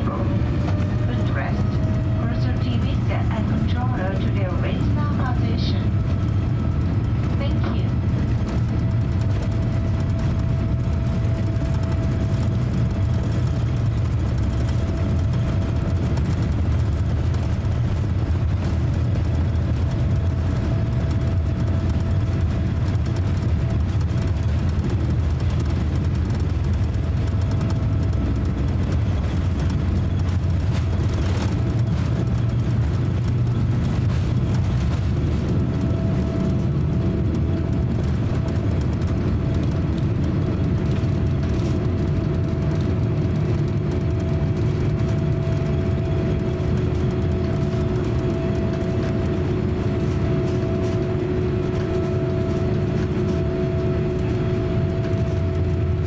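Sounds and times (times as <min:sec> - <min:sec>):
jet engines at takeoff thrust: 0:00.0 - 0:56.0
low steady rumble: 0:00.0 - 0:56.0
low-pitched tone: 0:00.0 - 0:56.0
steady hum: 0:00.0 - 0:56.0.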